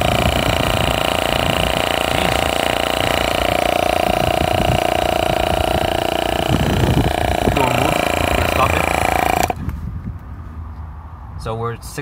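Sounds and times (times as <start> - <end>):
air compressor humming: 0.0 - 9.8.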